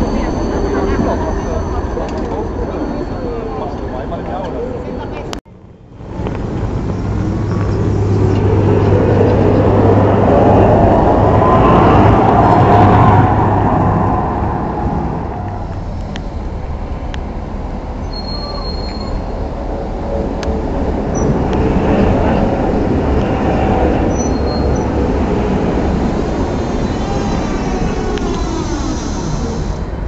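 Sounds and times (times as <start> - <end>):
street noise: 0.0 - 30.0
tram motors whining: 0.0 - 30.0
wheels rumbling on rails: 0.0 - 30.0.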